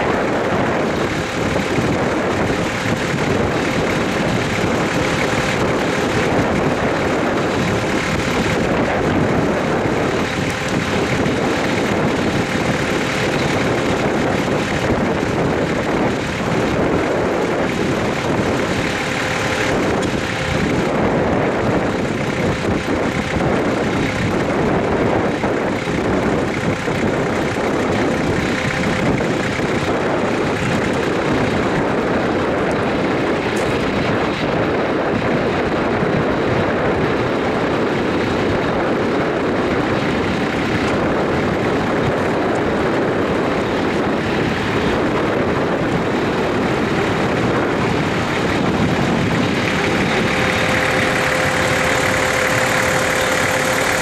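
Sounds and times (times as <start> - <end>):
train wagons rolling on rails: 0.0 - 54.0.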